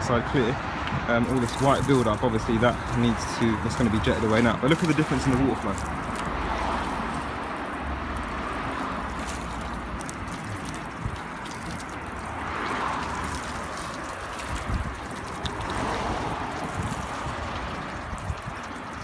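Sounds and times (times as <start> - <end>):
hose water splashing on car: 1.2 - 19.0.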